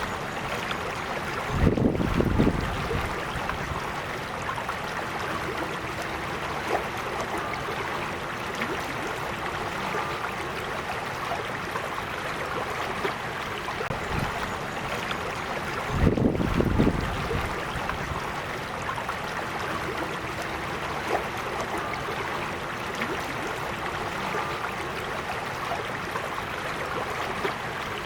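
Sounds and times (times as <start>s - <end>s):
creek babbling over stones: 0.0s - 28.0s.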